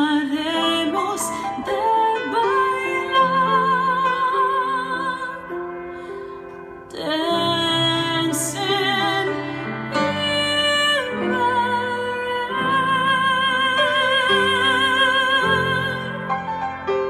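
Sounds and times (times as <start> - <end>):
woman singing with vibrato: 0.0 - 5.8, 6.9 - 16.4.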